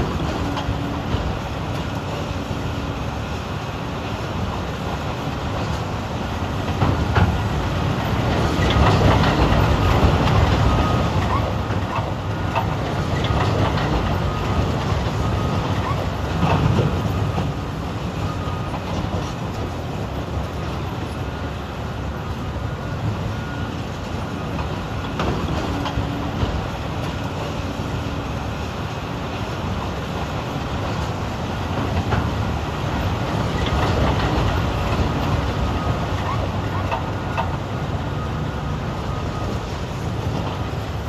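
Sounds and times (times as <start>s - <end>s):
excavator diesel engines: 0.0s - 41.0s.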